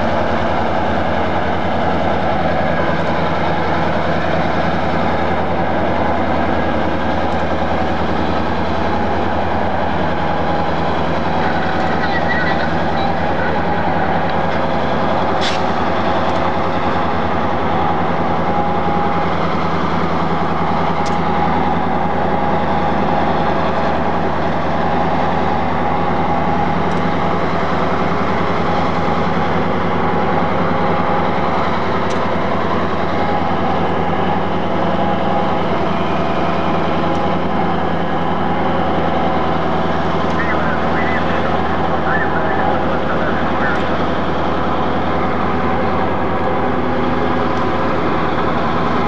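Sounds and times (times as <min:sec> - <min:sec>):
locomotive diesel engine running: 0:00.0 - 0:49.0.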